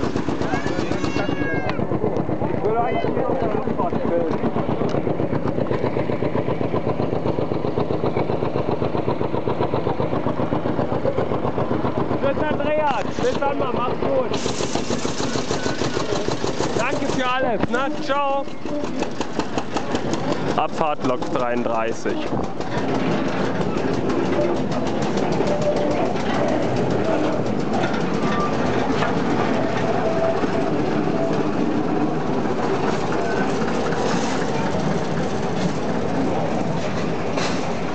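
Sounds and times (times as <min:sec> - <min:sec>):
diesel locomotive engine idling: 0:00.0 - 0:37.9
wagons rattling along track: 0:00.0 - 0:37.9.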